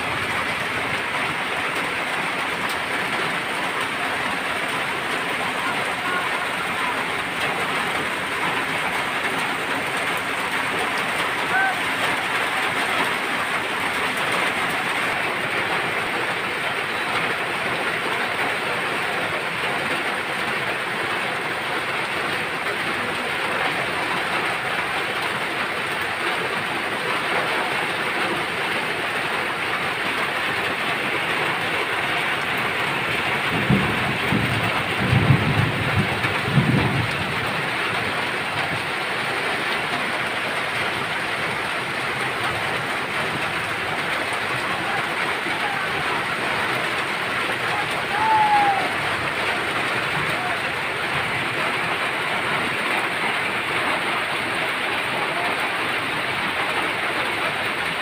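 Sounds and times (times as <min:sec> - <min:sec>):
rain on tin roofs: 0:00.0 - 0:58.0.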